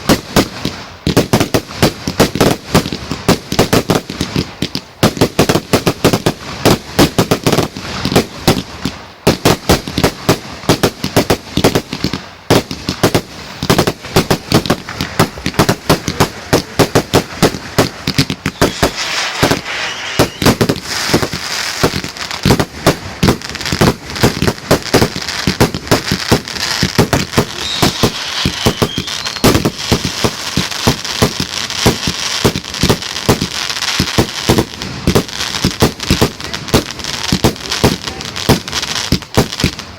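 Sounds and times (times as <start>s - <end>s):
crackling hiss: 0.0s - 39.9s
fireworks bangs: 0.0s - 39.9s.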